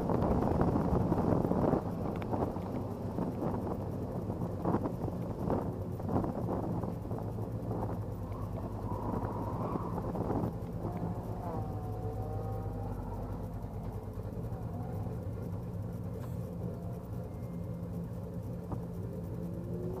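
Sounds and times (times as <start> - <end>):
car engine idling: 0.0 - 20.0
faint whine sliding in pitch: 0.0 - 20.0.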